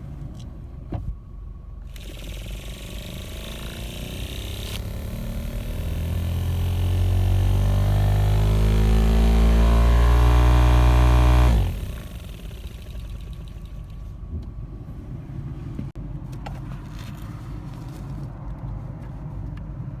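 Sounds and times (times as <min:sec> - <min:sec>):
car air conditioning drone: 0:00.0 - 0:18.2.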